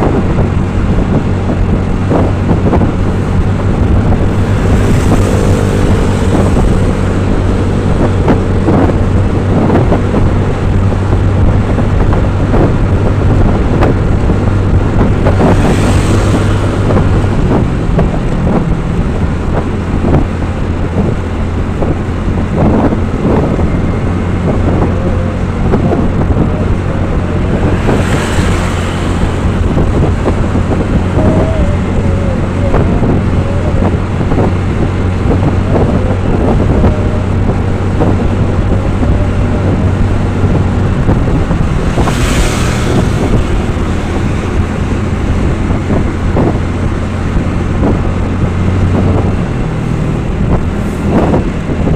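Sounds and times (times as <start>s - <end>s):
vehicle engine humming: 0.0s - 51.9s
wind buffeting microphone: 0.0s - 51.9s.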